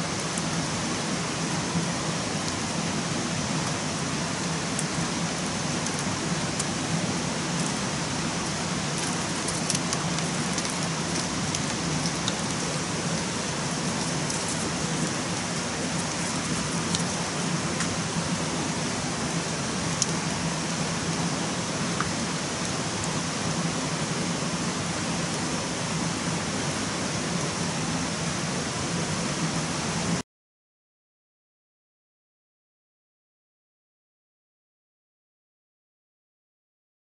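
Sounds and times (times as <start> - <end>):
steady rain-like hiss: 0.0 - 30.2.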